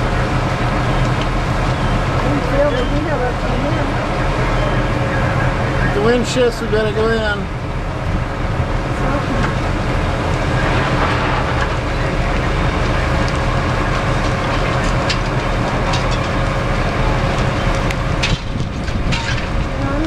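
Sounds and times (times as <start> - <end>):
fire engine pump rumbling: 0.0 - 20.0
sharp cracks from burning building: 0.0 - 20.0.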